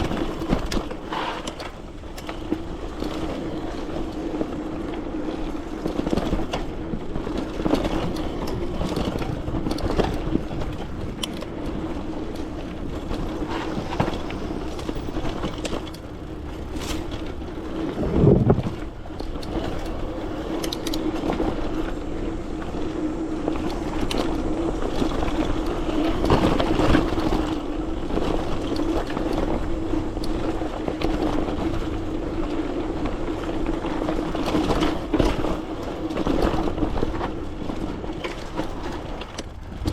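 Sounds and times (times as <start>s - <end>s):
small clicks and rattles: 0.0s - 22.9s, 23.5s - 39.9s
bike tyres rolling on rough trail: 0.0s - 39.9s.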